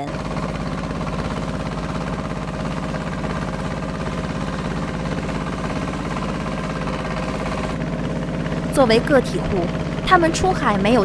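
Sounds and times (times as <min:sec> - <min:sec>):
boat engine throbbing: 0:00.0 - 0:11.0.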